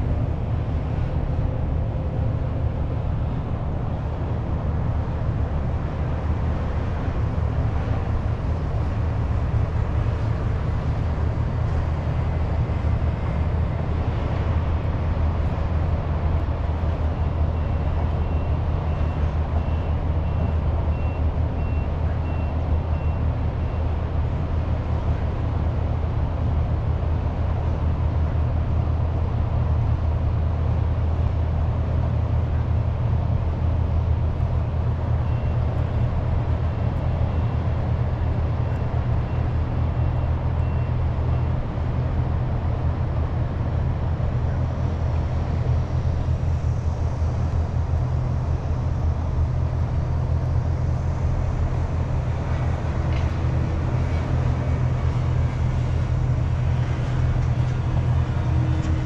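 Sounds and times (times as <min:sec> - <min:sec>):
city traffic rumble: 0:00.0 - 0:59.0.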